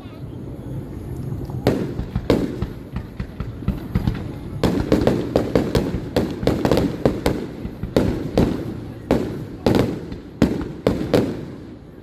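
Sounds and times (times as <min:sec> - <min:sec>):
fireworks bangs and pops: 0:01.4 - 0:12.0.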